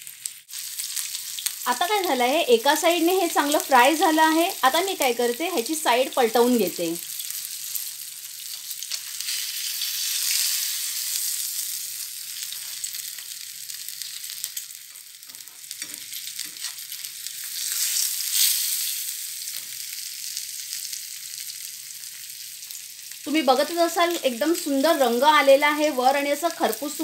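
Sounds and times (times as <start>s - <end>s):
fish sizzling in oil: 0.0s - 27.0s.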